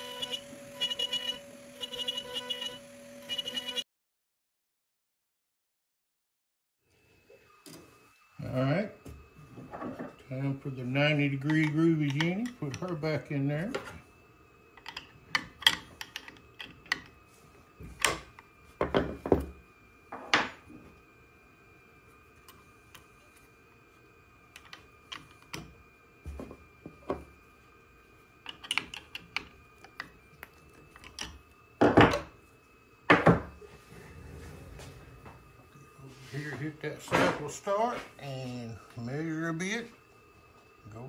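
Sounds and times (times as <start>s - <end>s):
faint high whine: 0.0s - 3.8s, 6.9s - 41.0s.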